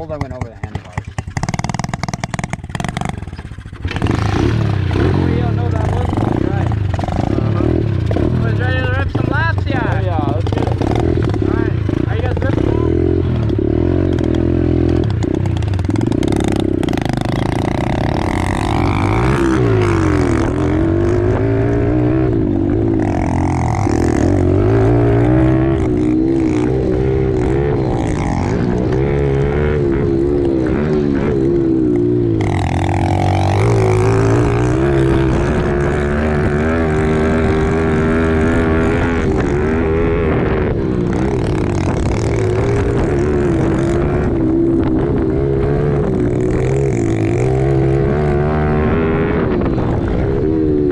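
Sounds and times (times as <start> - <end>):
pit bike engines revving: 0.0 - 50.9.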